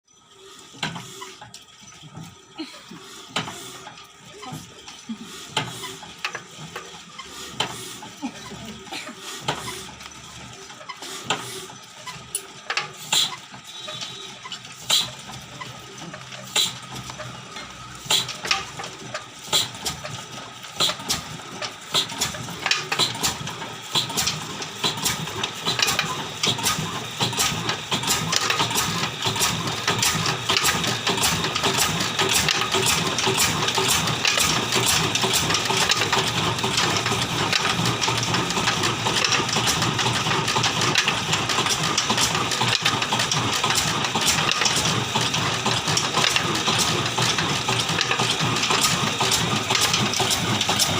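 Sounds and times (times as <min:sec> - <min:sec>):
stationary diesel engine running: 0:00.2 - 0:50.9.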